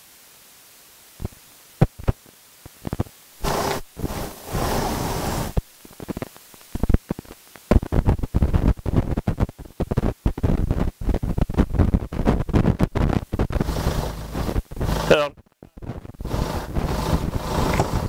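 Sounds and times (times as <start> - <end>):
wireless microphone hiss and crackling: 0.0 - 18.0.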